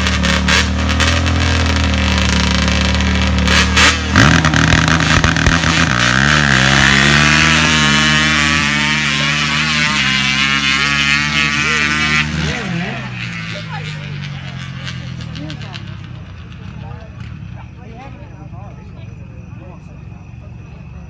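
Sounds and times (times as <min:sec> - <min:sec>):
atv engines revving: 0:00.0 - 0:21.0.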